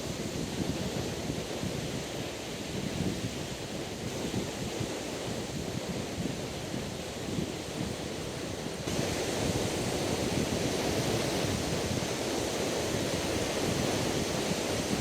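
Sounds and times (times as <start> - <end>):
waves washing onto beach: 0.0 - 15.0
wind rushing over microphone: 0.0 - 15.0.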